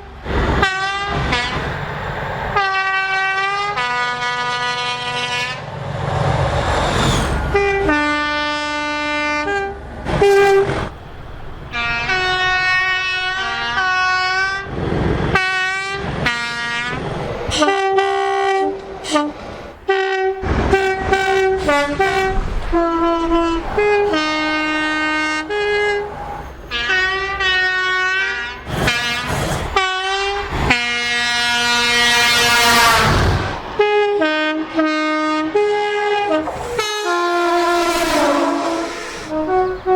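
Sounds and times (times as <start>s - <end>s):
rush of passing train: 0.0s - 39.9s
two-tone train horn blasts: 0.6s - 1.7s, 2.6s - 5.7s, 7.5s - 10.9s, 11.7s - 14.7s, 15.3s - 39.9s.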